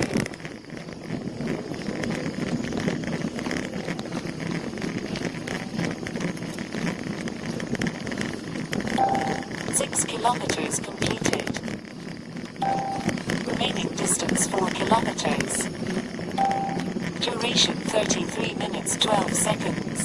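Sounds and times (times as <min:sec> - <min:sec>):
bicycle rattling on road: 0:00.0 - 0:20.0.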